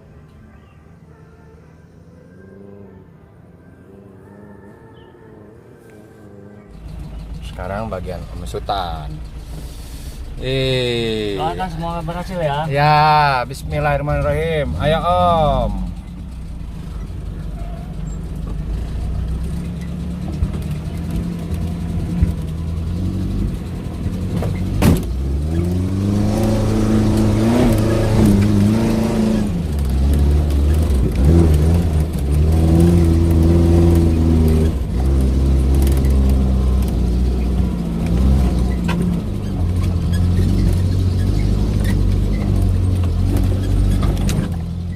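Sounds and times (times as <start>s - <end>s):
car engine labouring and revving: 2.2s - 44.9s.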